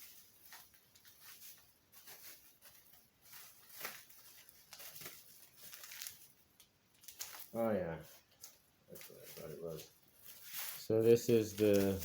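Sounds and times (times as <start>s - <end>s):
packaging rustling and clicking: 0.0s - 7.6s, 8.2s - 12.0s.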